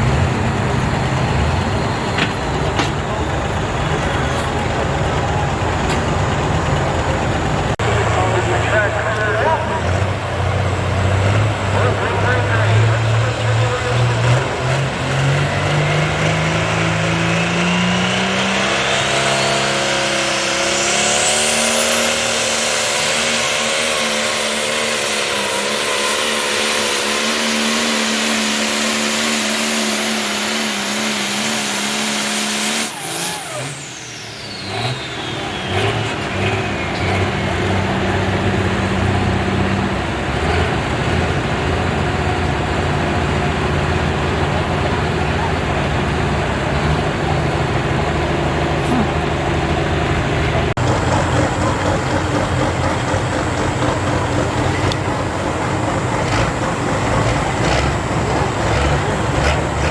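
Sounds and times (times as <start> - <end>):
diesel engine at full throttle: 0.0 - 59.9
high turbo whine: 0.0 - 59.9.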